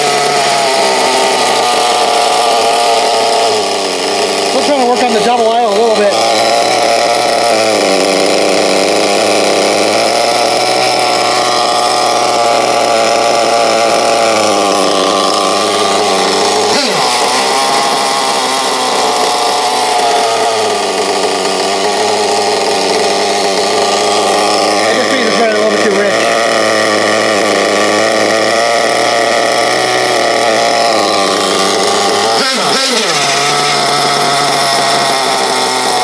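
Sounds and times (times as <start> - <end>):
nitro engine idling: 0.0 - 36.0.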